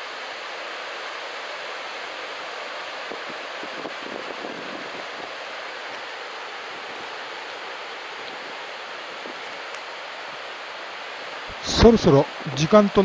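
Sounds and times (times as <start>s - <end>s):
ocean surf washing on beach: 0.0s - 13.0s.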